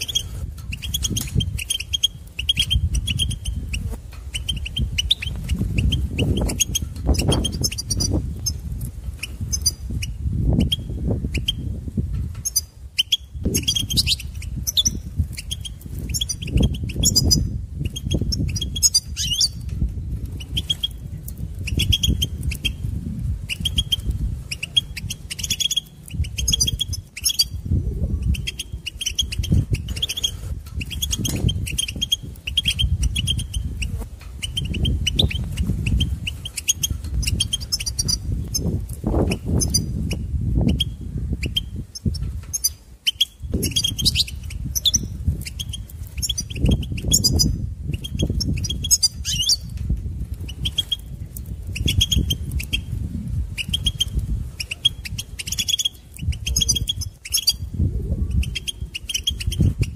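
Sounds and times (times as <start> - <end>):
bird twittering: 0.0 - 11.7, 12.4 - 19.7, 20.3 - 49.7, 50.5 - 57.7, 58.3 - 59.9.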